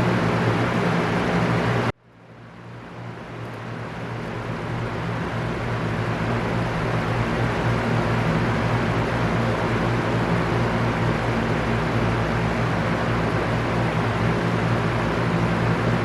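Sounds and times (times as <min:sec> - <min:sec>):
electric fan whooshing: 0:00.0 - 0:16.0.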